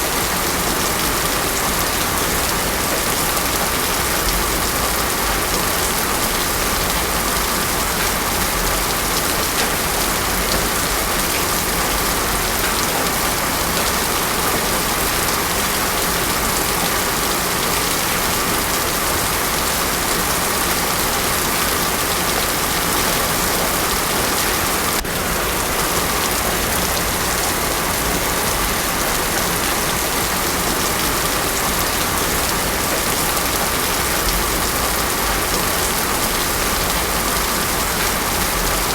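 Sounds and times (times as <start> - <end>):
heavy rain on pavement: 0.0 - 38.9.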